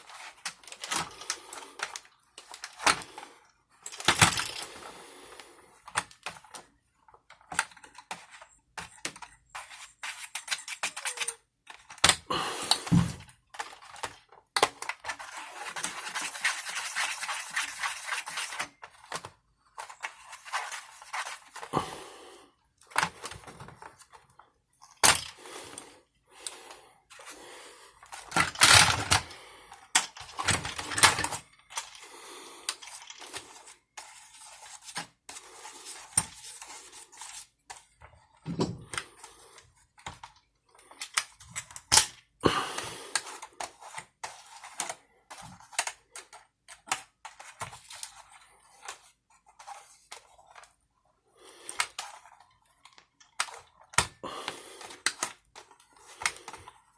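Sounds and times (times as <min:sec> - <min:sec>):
small parts and tools clattering: 0:00.0 - 0:03.2, 0:03.8 - 0:05.0, 0:05.8 - 0:21.7, 0:22.9 - 0:25.8, 0:28.0 - 0:50.7.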